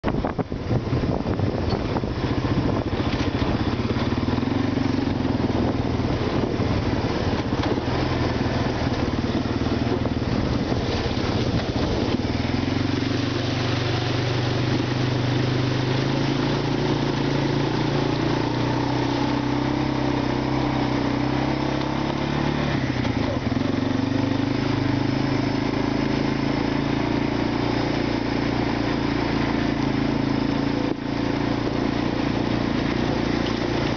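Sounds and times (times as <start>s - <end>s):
atv engine running: 0.0s - 33.9s
tyres splashing through water: 0.6s - 33.9s.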